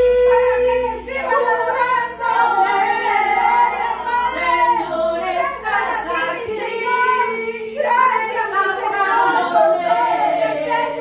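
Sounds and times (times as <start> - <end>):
women singing a worship song: 0.0 - 11.0.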